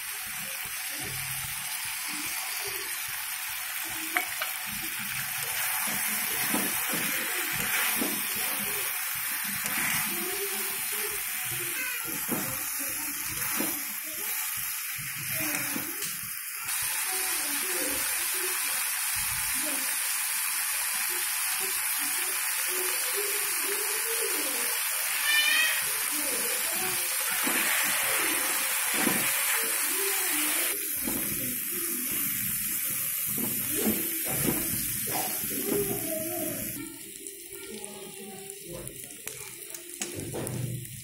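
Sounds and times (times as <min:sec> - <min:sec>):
chicken sizzling in hot oil: 0:00.0 - 0:41.0.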